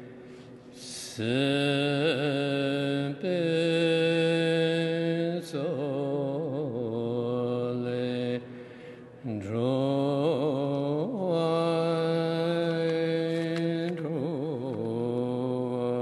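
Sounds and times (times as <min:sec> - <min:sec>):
man chanting prayer: 0:00.8 - 0:08.5, 0:09.2 - 0:16.0.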